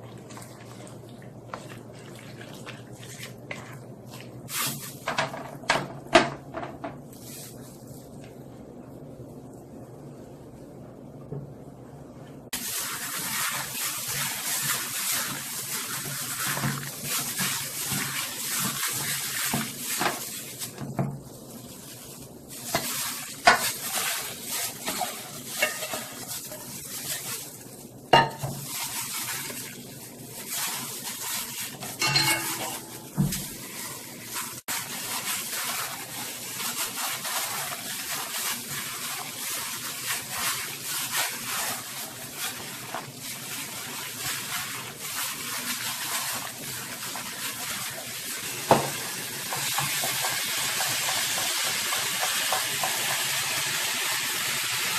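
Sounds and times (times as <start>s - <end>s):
wet squelching of meat mixing: 0.0s - 5.0s, 12.5s - 53.4s.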